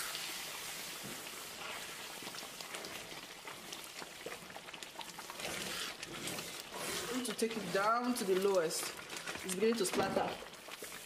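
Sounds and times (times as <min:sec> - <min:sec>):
fine crackles of splattering: 0:00.0 - 0:11.0
stew boiling and bubbling: 0:00.0 - 0:11.0.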